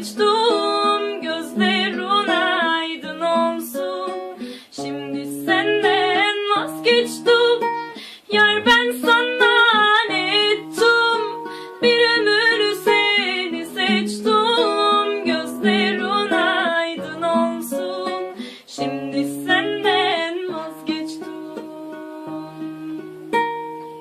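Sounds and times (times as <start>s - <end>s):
plucked strings: 0.0s - 24.0s
woman singing ornamented notes: 0.0s - 24.0s.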